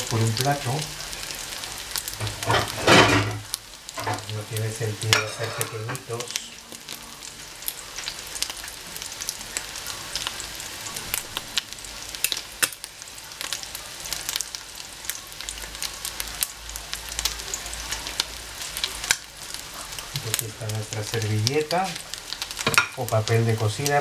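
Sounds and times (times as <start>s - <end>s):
patties sizzling in oil: 0.0s - 24.0s.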